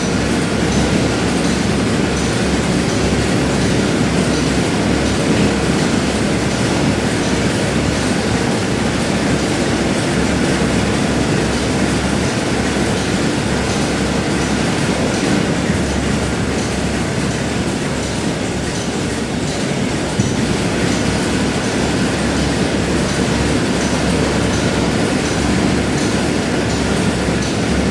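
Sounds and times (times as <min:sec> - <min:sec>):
factory machinery din: 0:00.0 - 0:27.9.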